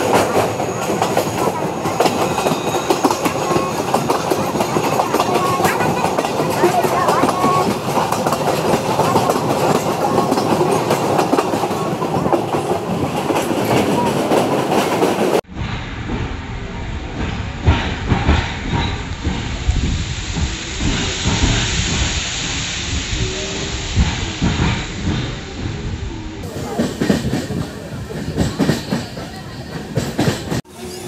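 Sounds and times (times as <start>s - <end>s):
train wheels clattering on rails: 0.0s - 16.4s, 17.0s - 31.0s.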